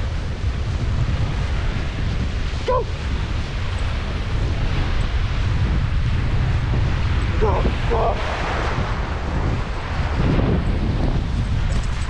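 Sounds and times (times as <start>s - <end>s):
surf: 0.0s - 12.0s
wind buffeting microphone: 0.0s - 12.0s.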